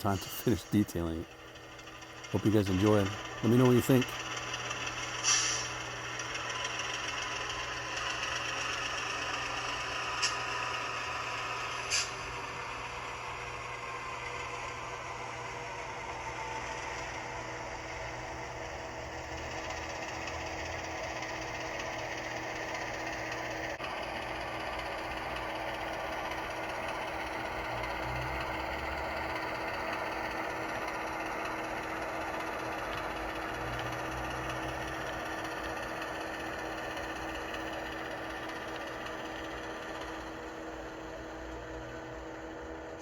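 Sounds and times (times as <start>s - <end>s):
diesel engine sound from small speaker: 0.0s - 43.0s.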